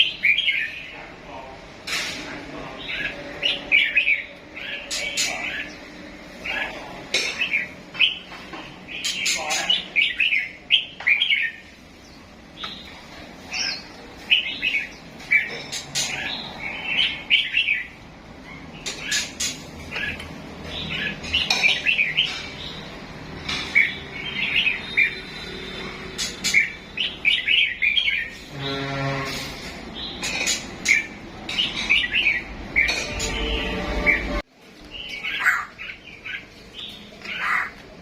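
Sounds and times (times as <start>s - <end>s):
songbirds chirping and warbling: 0.0s - 38.0s.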